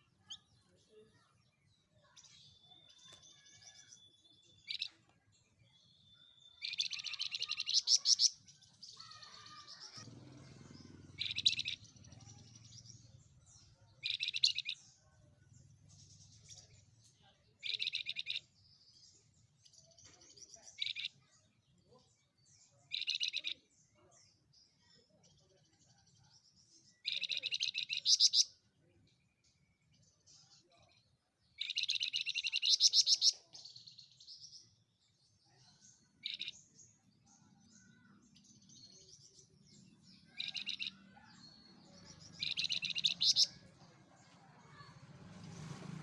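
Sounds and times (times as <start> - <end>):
soft bird twittering: 0.0 - 44.9
songbird chirping trills: 0.0 - 45.8.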